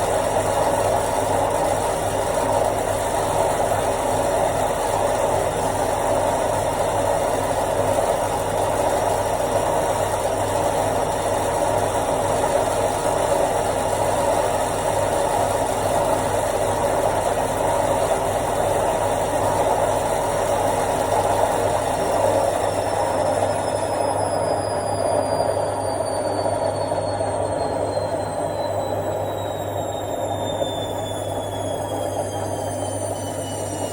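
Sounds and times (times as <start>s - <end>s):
faint high whine falling in pitch: 0.0s - 33.9s
washing machine spinning: 0.0s - 33.9s.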